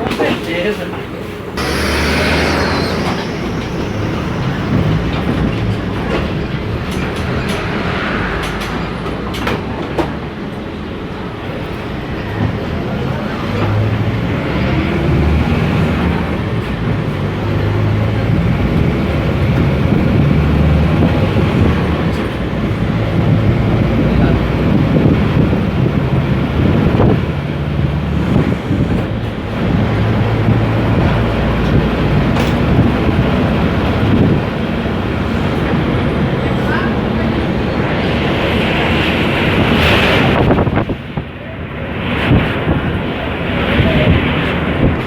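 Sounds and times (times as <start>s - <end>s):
bus diesel engine: 0.0s - 45.0s
road noise: 0.0s - 45.0s.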